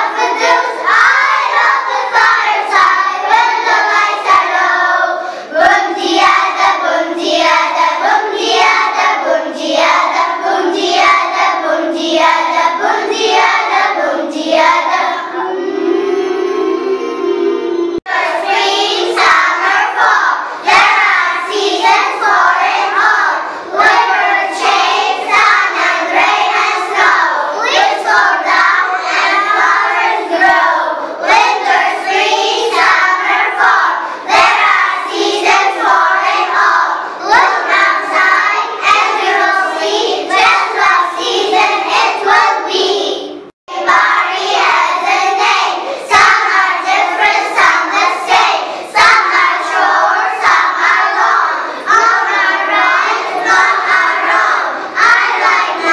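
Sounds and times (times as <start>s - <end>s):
children singing together: 0.0s - 55.9s.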